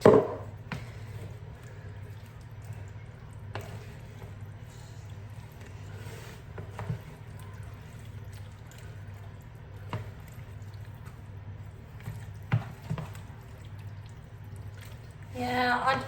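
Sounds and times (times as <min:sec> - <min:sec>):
wet squishing of sauce: 0:00.0 - 0:16.0.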